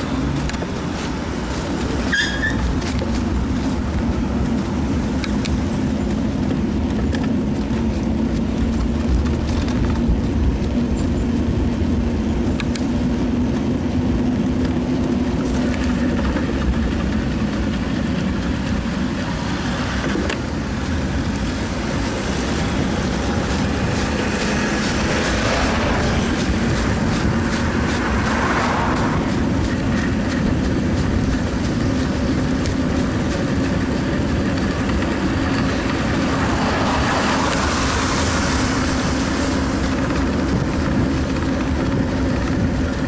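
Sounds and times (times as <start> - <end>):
passing car traffic: 0.0 - 43.0
road rumble: 0.0 - 43.0
wind buffeting microphone: 0.0 - 43.0.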